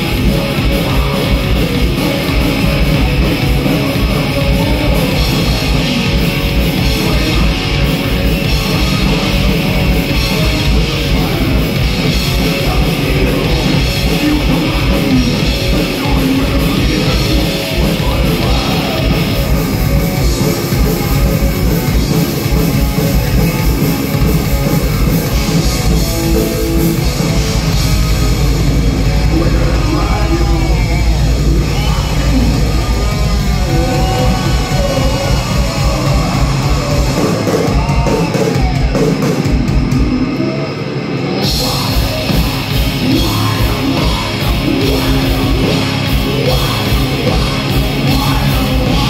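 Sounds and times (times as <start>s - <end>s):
distorted electric guitars: 0.0s - 49.0s
drum kit: 0.0s - 49.0s.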